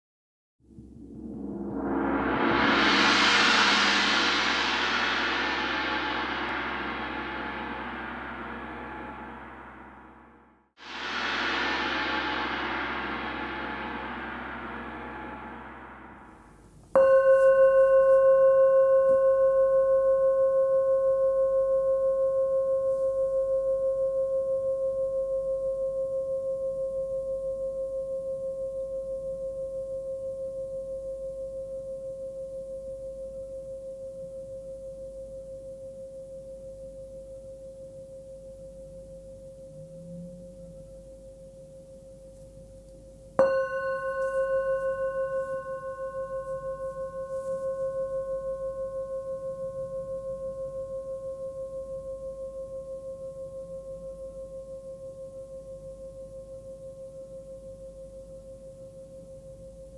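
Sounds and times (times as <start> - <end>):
singing bowl ringing: 1.2 - 59.9.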